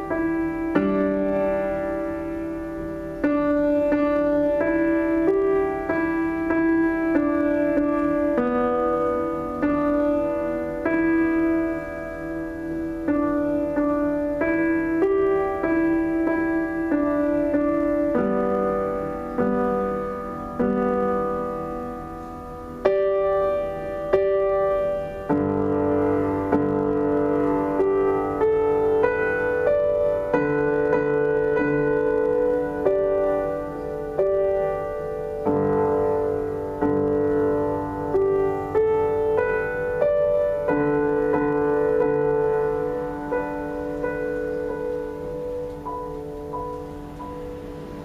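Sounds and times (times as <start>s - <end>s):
piano melody: 0.0s - 48.0s.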